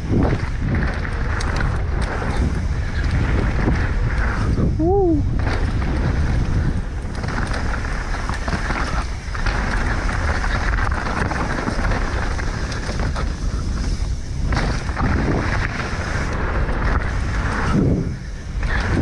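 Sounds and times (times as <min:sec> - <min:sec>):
bike clicks and rattles: 0:00.0 - 0:19.0
tyres crackling over dirt and stones: 0:00.0 - 0:19.0
wind buffeting microphone: 0:00.0 - 0:19.0.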